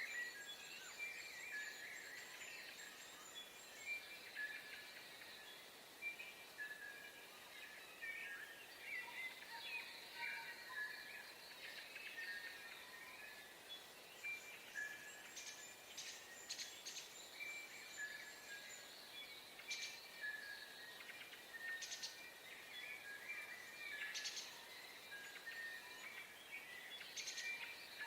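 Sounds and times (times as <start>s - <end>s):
songbirds whistling: 0.0s - 28.0s.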